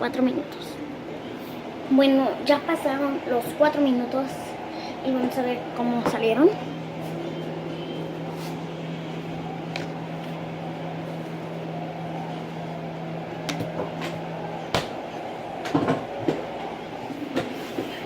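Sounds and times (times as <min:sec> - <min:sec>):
electrical appliance hum: 0:00.0 - 0:18.0.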